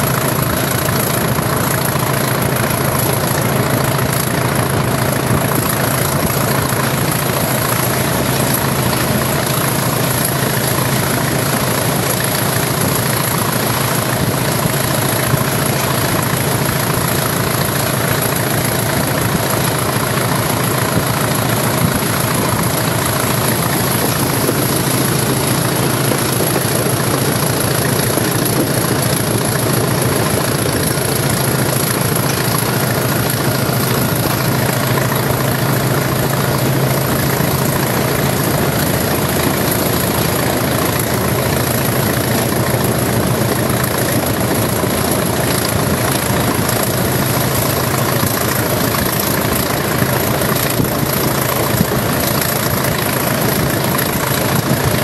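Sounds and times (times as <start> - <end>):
diesel locomotive engine working hard: 0.0 - 55.0
track noise: 0.0 - 55.0.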